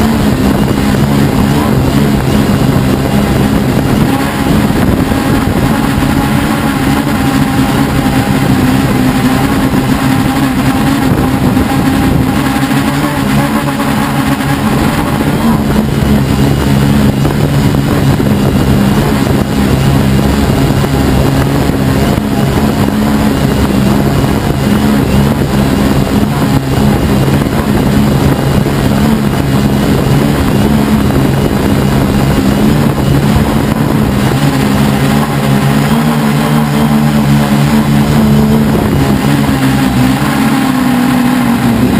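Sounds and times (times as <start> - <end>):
quadcopter motors humming: 0.0 - 41.9.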